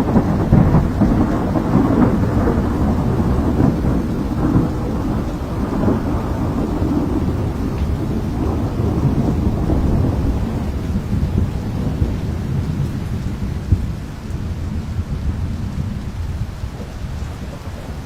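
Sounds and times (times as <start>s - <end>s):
storm low rumble: 0.0s - 18.0s.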